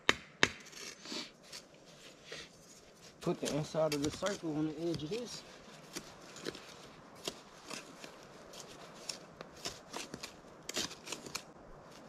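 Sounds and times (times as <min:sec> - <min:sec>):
scrapes and crunches in dirt: 0:00.6 - 0:12.0.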